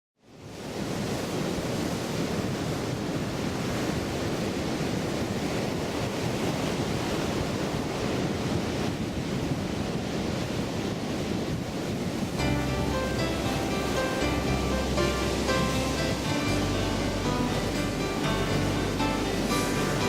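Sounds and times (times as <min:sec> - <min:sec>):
waves washing onto beach: 0:00.2 - 0:20.0
wind: 0:00.2 - 0:20.0.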